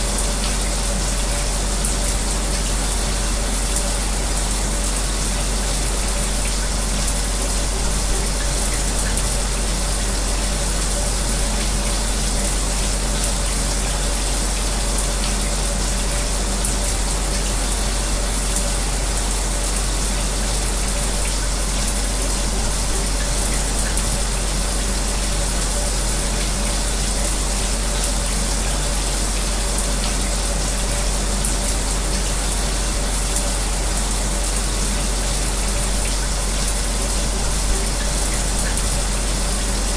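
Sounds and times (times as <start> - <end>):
electric fan humming: 0.0 - 39.9
shower water running: 0.0 - 39.9.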